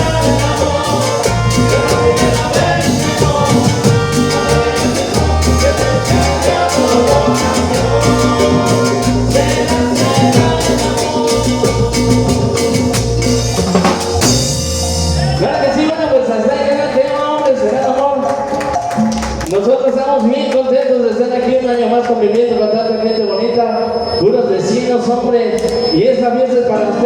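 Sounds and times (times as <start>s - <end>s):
live salsa band music: 0.0s - 27.0s.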